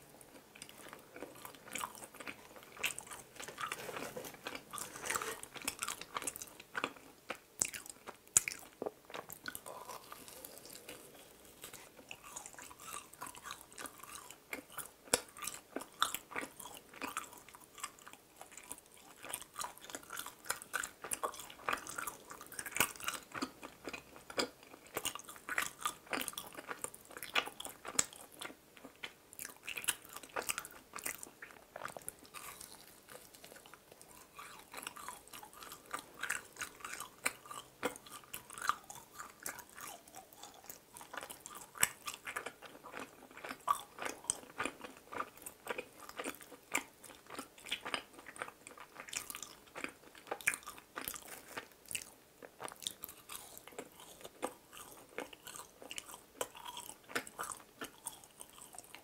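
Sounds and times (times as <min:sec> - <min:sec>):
crisp chewing and biting: 0:00.3 - 0:59.0.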